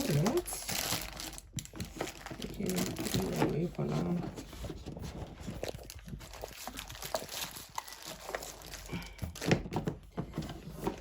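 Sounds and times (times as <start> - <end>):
box and packaging rustling: 0.0 - 11.0.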